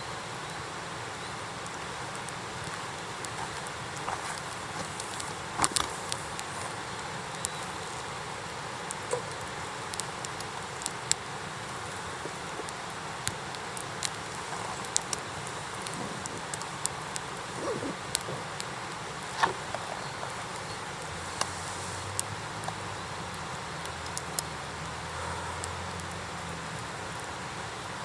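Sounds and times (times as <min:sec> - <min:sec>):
campfire crackling: 0:00.1 - 0:28.0
fire popping: 0:00.4 - 0:27.9.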